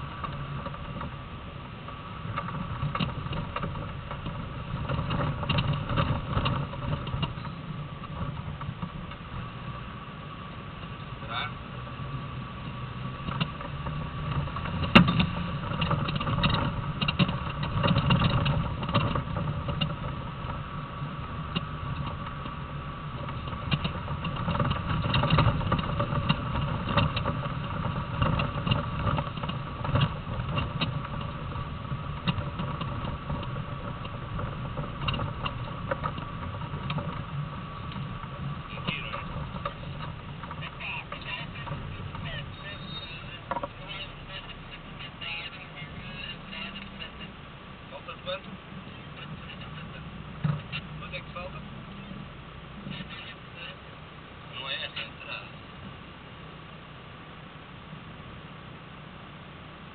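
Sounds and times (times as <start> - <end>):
vehicle rattles and knocks: 0.0 - 57.3
car engine running inside cabin: 0.0 - 59.9.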